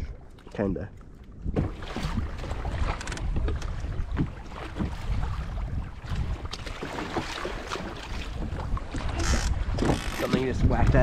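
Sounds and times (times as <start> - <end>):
water splashing against kayak hull: 0.0 - 11.0
wind buffeting microphone: 1.2 - 11.0.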